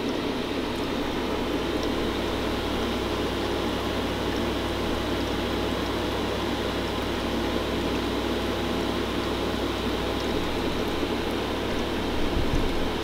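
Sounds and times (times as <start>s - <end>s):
fog machine whirring: 0.0s - 13.0s.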